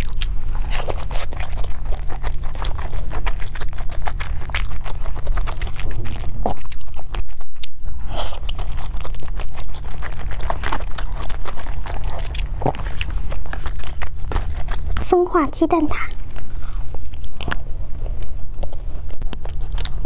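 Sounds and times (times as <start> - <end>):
wet chewing mouth clicks: 0.0 - 15.2, 16.0 - 20.0
steady low hum: 0.0 - 20.0.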